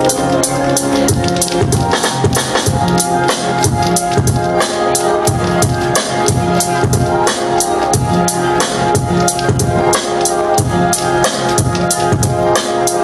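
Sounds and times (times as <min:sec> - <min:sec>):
bass line: 0:00.0 - 0:13.0
drum machine beat: 0:00.0 - 0:13.0
sustained synth chords: 0:00.0 - 0:13.0.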